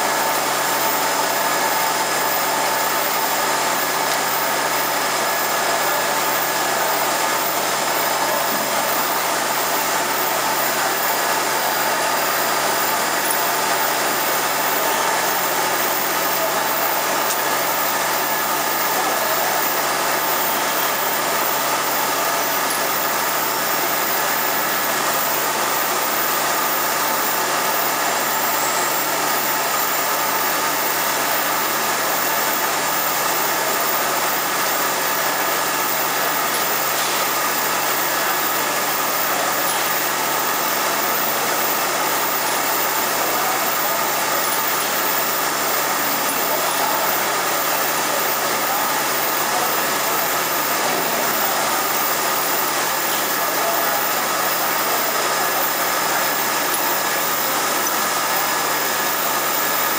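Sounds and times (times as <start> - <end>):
machine motors and fans whirring: 0.0 - 59.9.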